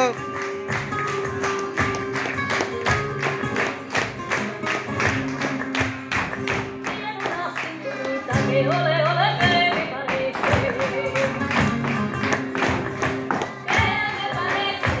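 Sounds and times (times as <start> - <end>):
flamenco music: 0.0 - 15.0
hand-clapping: 0.0 - 15.0.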